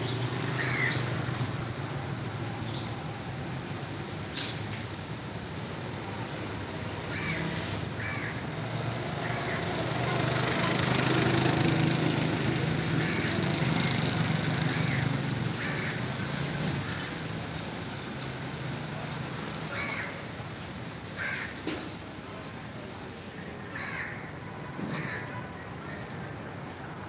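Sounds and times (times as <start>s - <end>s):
street traffic: 0.0s - 27.0s
vehicle engine running nearby: 0.0s - 27.0s.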